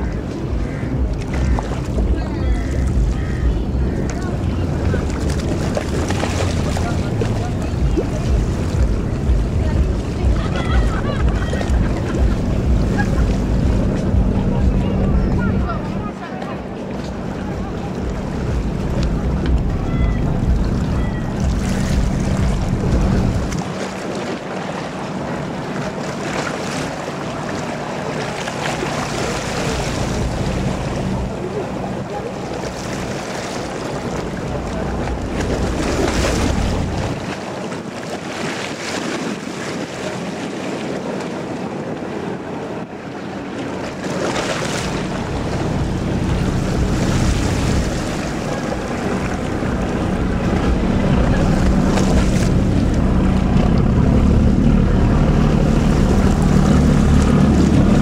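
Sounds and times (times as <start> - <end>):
boat engine hum: 0.0 - 58.0
waves rushing: 0.0 - 58.0
wind buffeting microphone: 0.0 - 58.0.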